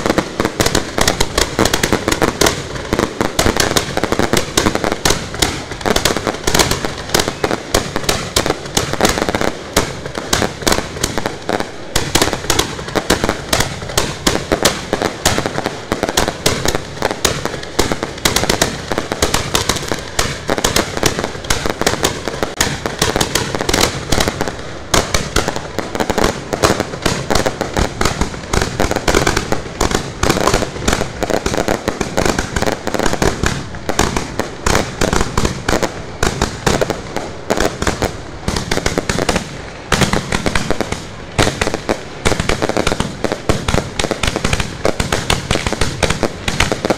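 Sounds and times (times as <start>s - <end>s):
fireworks bangs and cracks: 0.0s - 46.9s.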